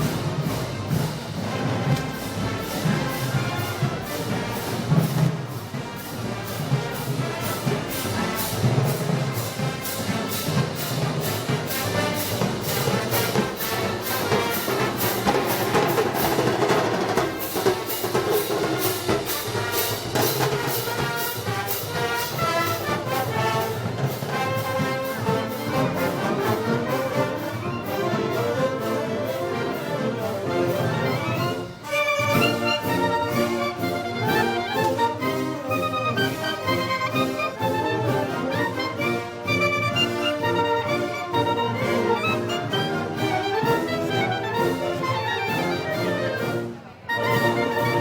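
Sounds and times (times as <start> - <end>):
brass: 0.0 - 48.0
percussion steady beat: 0.0 - 48.0.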